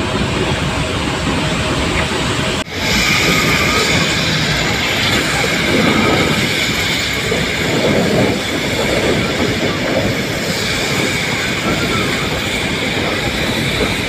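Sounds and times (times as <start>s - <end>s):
train wheels rumbling on rails: 0.0s - 14.0s
faint high wheel squeal: 2.7s - 14.0s.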